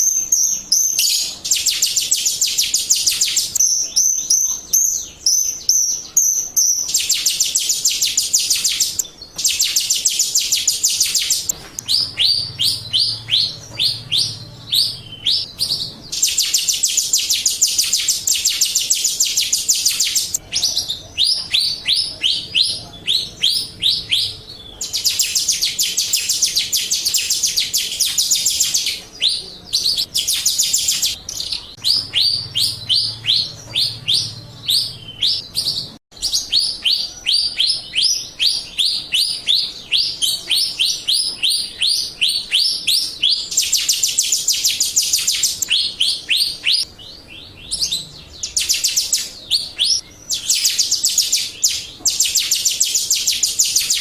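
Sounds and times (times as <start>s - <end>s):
starling chirps and trills: 0.0s - 54.0s.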